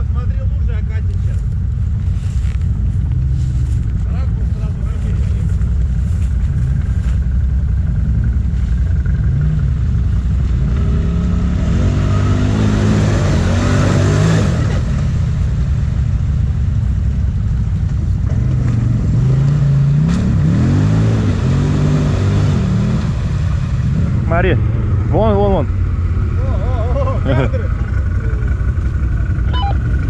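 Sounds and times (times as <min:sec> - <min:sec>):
steady low rumble: 0:00.0 - 0:21.4, 0:22.1 - 0:30.0
quad bike engines revving: 0:02.2 - 0:15.8, 0:17.9 - 0:30.0.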